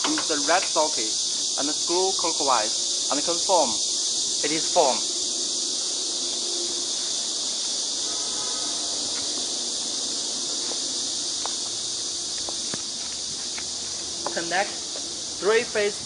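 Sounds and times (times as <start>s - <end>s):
steady high-pitched hiss: 0.0s - 16.0s.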